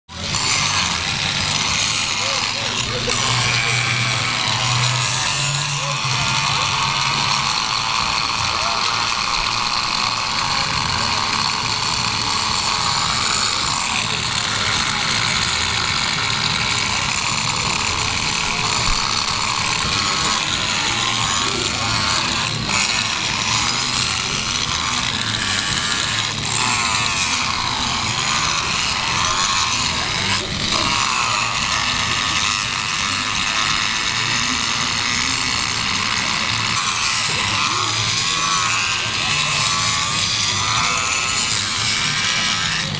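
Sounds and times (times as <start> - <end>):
angle grinder grinding metal: 0.1 - 42.9.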